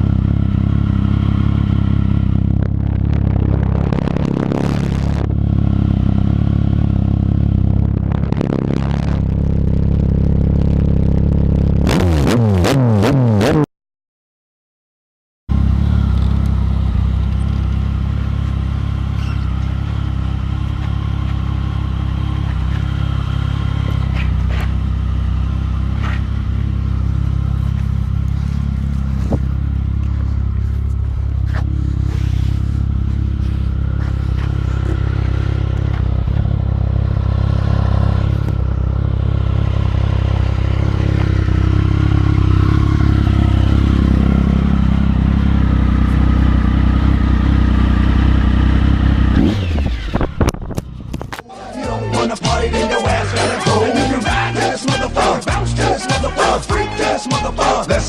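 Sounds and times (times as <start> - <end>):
motorcycle engine running: 0.0 - 12.7, 15.5 - 58.0.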